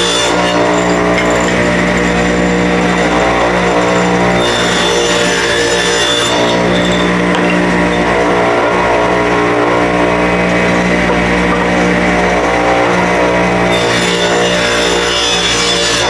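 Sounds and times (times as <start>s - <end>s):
table saw ripping boards: 0.0s - 16.0s.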